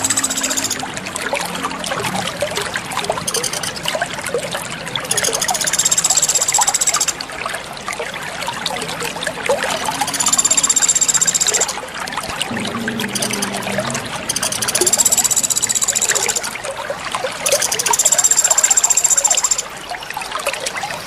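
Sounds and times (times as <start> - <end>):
water trickling over stones: 0.0 - 21.0.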